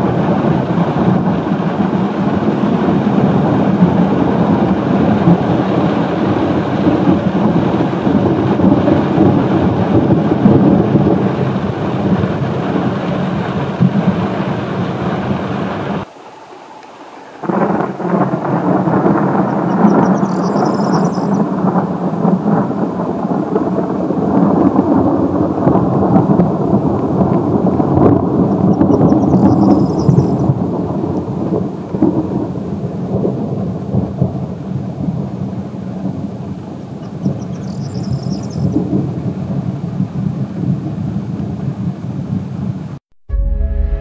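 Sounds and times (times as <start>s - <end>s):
rolling thunder: 0.0s - 16.6s, 17.2s - 42.8s.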